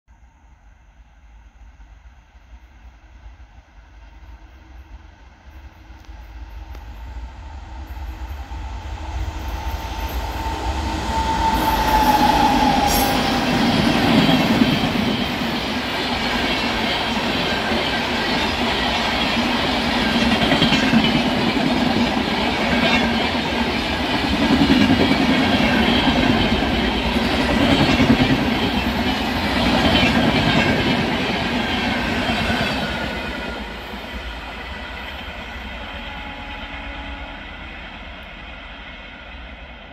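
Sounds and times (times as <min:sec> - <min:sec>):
train passing at speed: 0:00.2 - 0:39.9.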